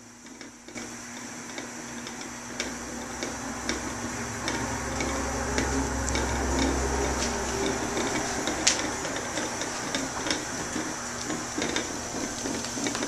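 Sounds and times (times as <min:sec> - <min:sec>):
coffee pot perking: 0:00.0 - 0:13.0
steady low hum: 0:00.0 - 0:13.0
wood stove ticking and crackling: 0:00.0 - 0:13.0.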